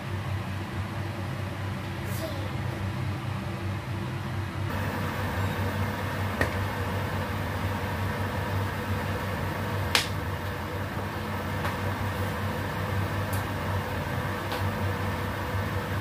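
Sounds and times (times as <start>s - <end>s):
cooling fan humming: 0.0s - 16.0s.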